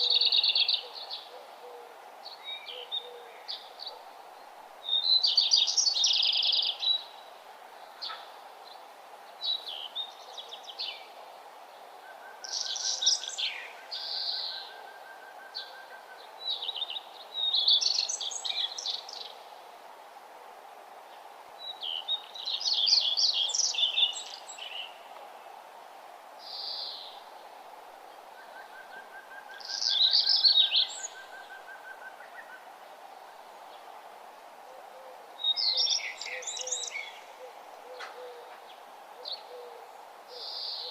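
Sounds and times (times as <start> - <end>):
faint background hiss: 0.0 - 40.9.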